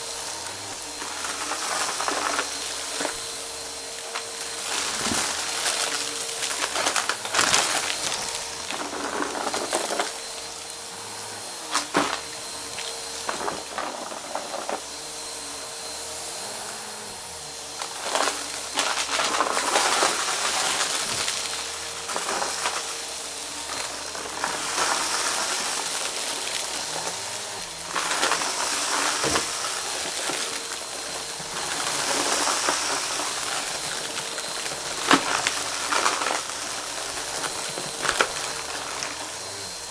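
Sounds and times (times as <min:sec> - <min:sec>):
brushroll crunching debris: 0:00.0 - 0:39.9
vacuum cleaner running: 0:00.0 - 0:39.9.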